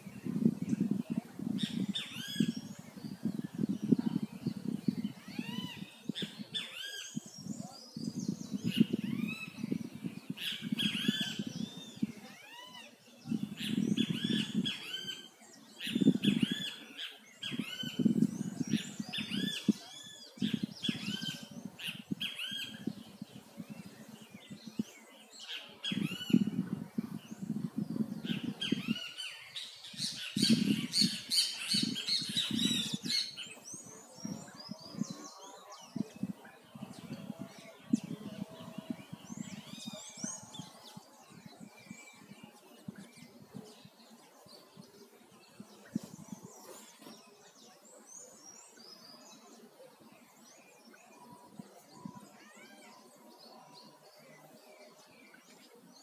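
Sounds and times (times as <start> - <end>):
wild birds chirping and squawking: 0.0 - 56.0.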